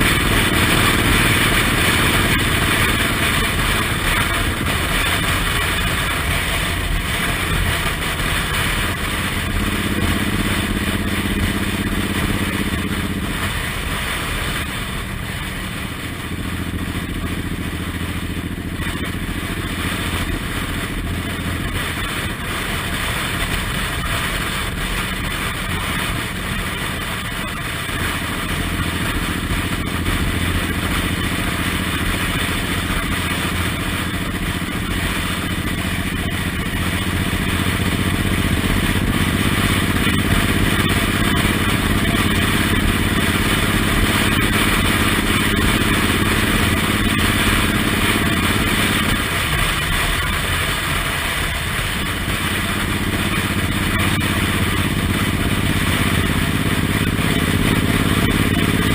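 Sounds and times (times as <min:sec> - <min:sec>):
motorcycle engine running: 0:00.0 - 0:58.9
steady rushing noise: 0:00.0 - 0:58.9.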